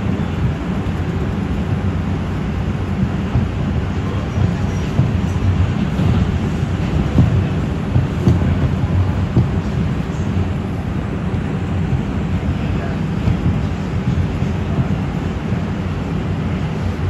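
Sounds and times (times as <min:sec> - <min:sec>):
loud train knocks: 0:00.0 - 0:17.0
train wheels rumbling on rail: 0:00.0 - 0:17.0.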